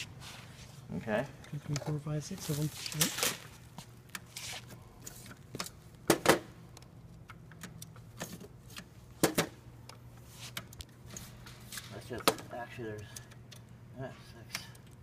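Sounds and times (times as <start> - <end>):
hard drive caddies clacking: 1.3 - 13.8.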